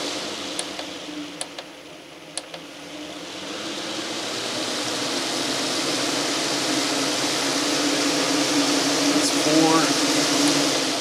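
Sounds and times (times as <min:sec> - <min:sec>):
roof vent fan running: 0:00.0 - 0:11.0.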